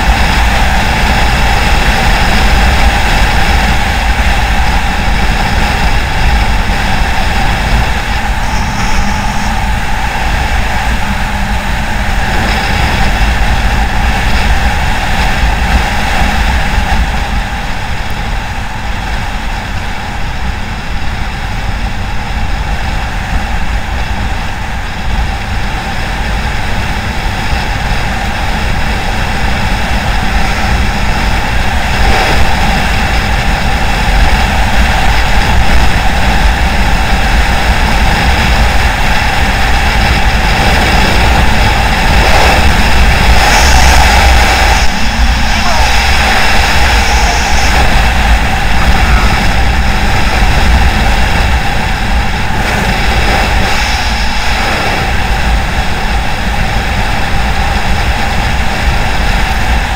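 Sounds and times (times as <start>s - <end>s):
small motorcycle engine running: 0.0s - 59.9s
wind buffeting microphone: 0.0s - 59.9s.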